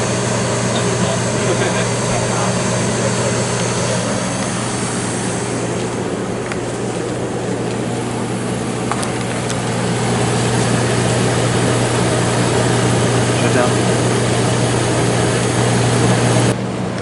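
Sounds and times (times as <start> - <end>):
air conditioner compressor hum: 0.0 - 17.0
fan rush of air: 0.0 - 17.0.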